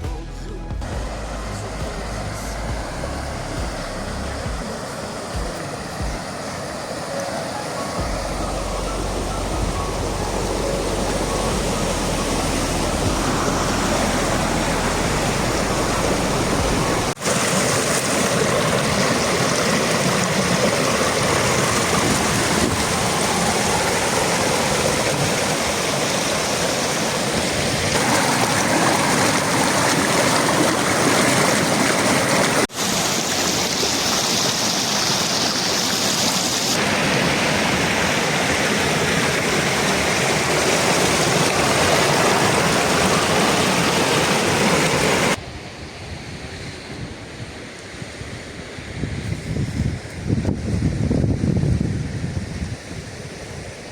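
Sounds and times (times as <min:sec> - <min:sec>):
waterfall roaring: 0:00.8 - 0:45.4.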